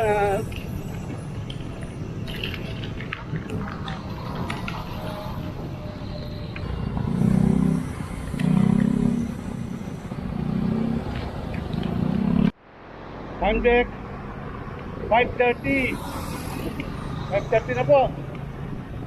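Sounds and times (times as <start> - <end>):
motor vehicles passing: 0.0 - 19.0.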